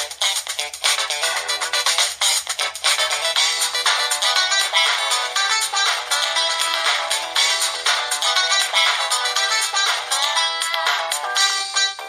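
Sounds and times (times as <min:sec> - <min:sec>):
electronic phone ringtone melody: 0:01.2 - 0:12.0.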